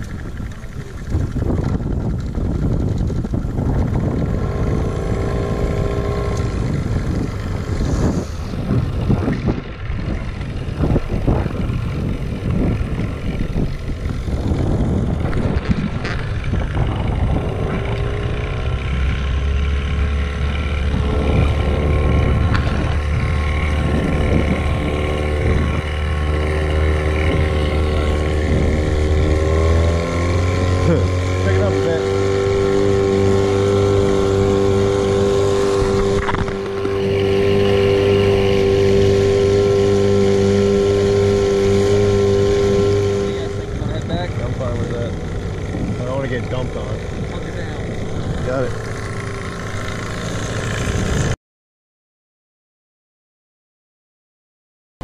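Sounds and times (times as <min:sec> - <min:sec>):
outboard motor running: 0:00.0 - 0:51.4.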